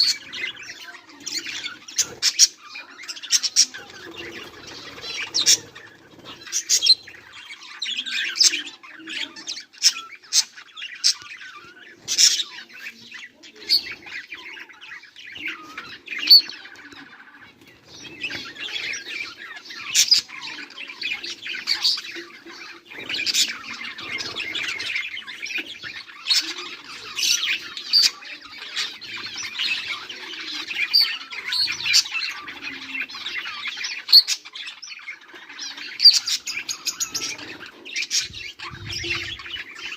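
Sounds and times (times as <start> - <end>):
budgerigars chirping: 0.0 - 39.9
loud bird calls: 0.0 - 39.9.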